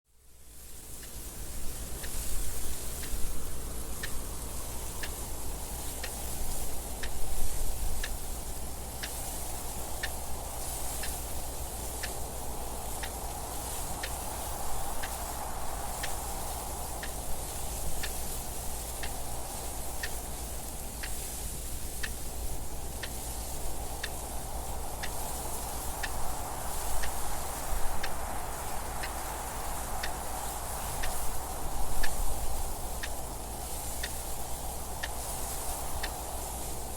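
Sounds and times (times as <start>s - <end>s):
wind noise: 0.8s - 36.9s
clock ticking: 1.0s - 36.9s.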